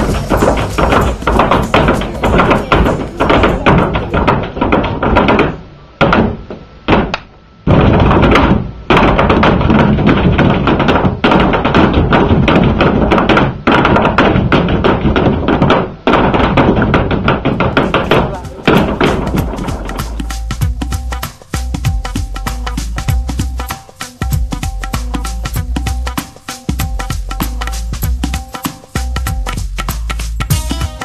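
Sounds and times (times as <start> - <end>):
heeled shoes stamping on stage: 0.0 - 5.5, 8.2 - 31.0
flamenco music: 0.0 - 5.6, 7.7 - 31.0.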